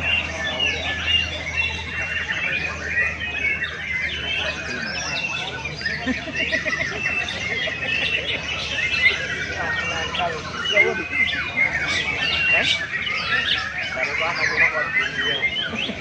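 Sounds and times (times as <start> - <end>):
caged songbirds singing: 0.0 - 16.0.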